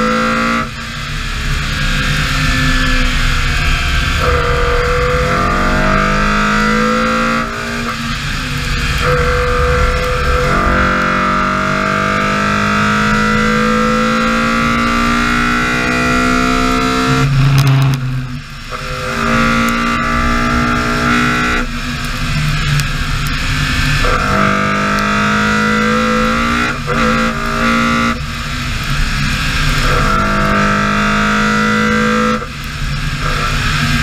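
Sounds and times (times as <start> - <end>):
car engine revving under load: 0.0 - 34.0.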